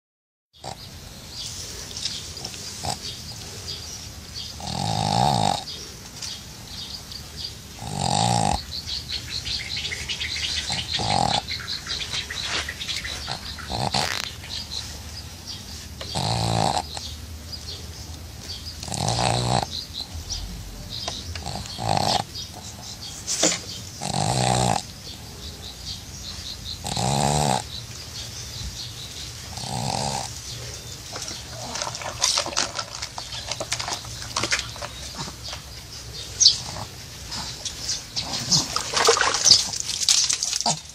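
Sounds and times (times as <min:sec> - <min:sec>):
pet snoring: 0:00.6 - 0:00.9, 0:02.1 - 0:06.0, 0:07.7 - 0:17.2, 0:18.5 - 0:25.3, 0:26.4 - 0:27.8, 0:28.8 - 0:40.9.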